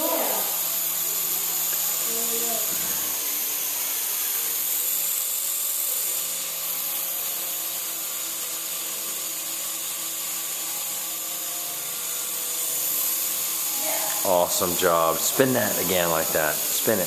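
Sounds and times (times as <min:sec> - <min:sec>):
toy helicopter rotors whirring: 0:00.0 - 0:17.0.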